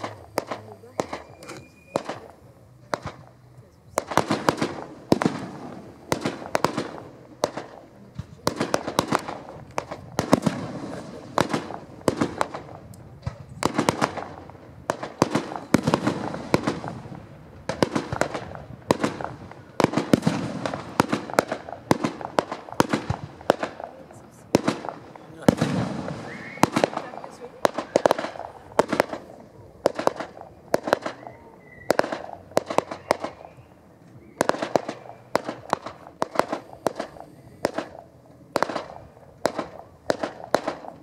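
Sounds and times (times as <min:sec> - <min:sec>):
fireworks bursting and crackling: 0:00.0 - 0:41.0.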